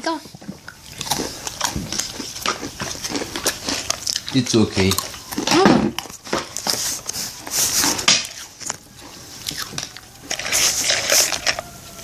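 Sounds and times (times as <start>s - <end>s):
biscuit stick crunching: 0.6s - 11.7s.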